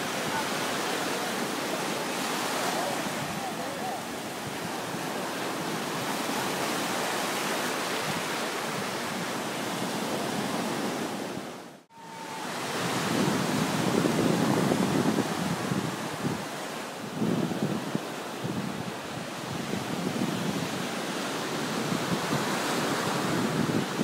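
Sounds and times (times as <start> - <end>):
surf washing onto beach: 0.0 - 24.0
wind buffeting microphone: 0.0 - 24.0.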